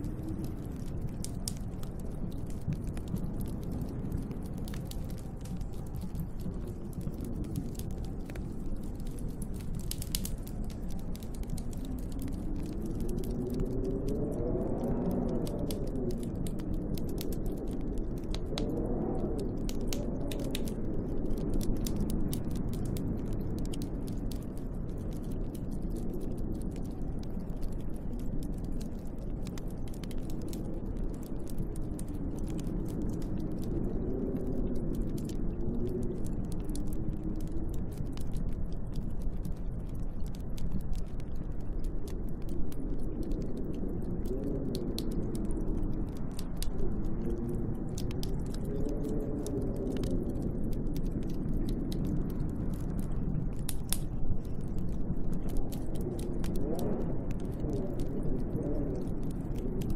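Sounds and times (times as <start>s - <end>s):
storm wind howling in gusts: 0.0s - 59.9s
wood fire crackling: 0.0s - 59.9s.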